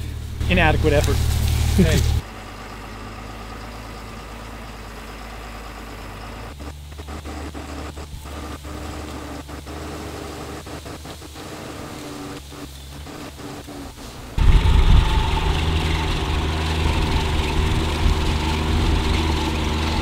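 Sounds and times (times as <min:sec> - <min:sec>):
tracked vehicle engine running: 0:00.0 - 0:20.0.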